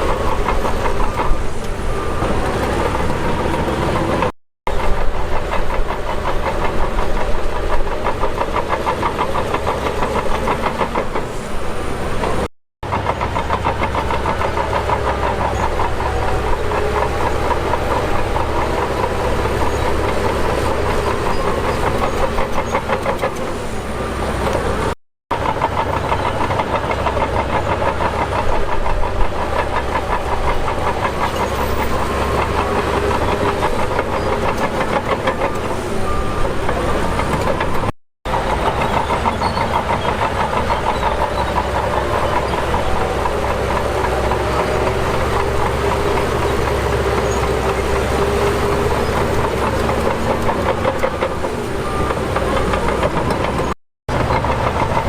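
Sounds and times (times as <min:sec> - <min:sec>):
heavy diesel machinery clattering: 0:00.0 - 0:55.0.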